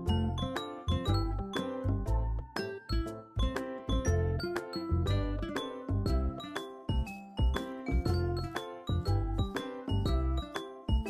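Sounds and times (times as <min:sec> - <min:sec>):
light background music with beat: 0:00.0 - 0:11.0.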